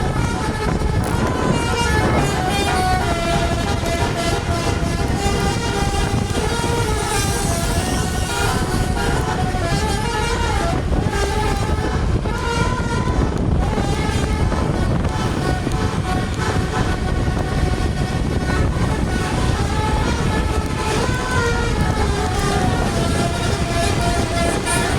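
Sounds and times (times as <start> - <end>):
engine and road rumble: 0.0 - 24.9
musical air horn melody: 0.0 - 24.9.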